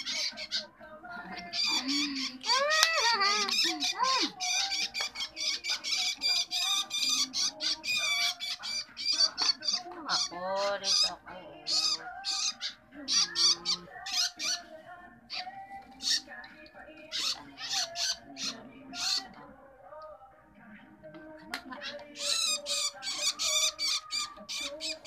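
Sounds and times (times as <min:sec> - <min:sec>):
nestlings begging calls: 0:00.0 - 0:00.7, 0:01.3 - 0:14.7, 0:15.3 - 0:16.4, 0:17.0 - 0:19.4, 0:21.8 - 0:25.0.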